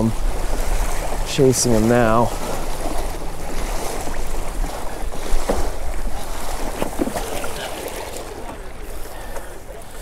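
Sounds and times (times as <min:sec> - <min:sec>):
water rushing along kayak hull: 0:00.0 - 0:10.0
wind buffeting microphone: 0:00.0 - 0:10.0.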